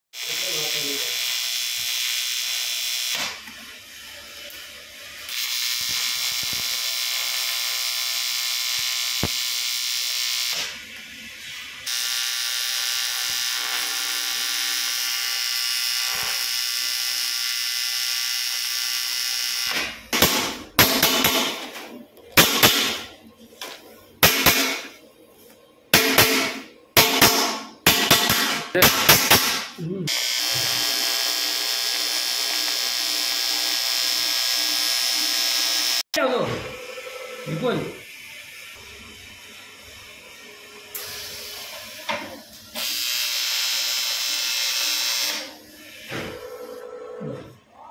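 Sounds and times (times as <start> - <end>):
welding arc buzzing: 0.2 - 25.0, 25.9 - 36.0, 37.9 - 46.8.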